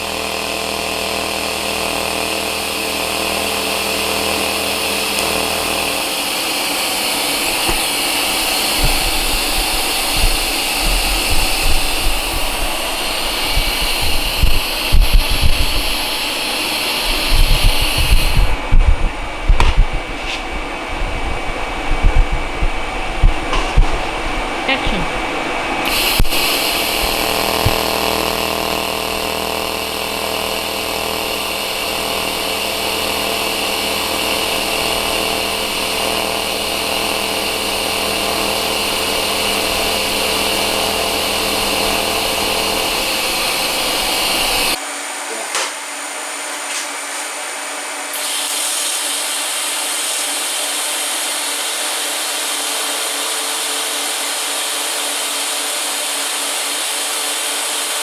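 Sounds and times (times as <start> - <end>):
welding arc buzzing hum: 0.0 - 44.9, 48.0 - 58.0.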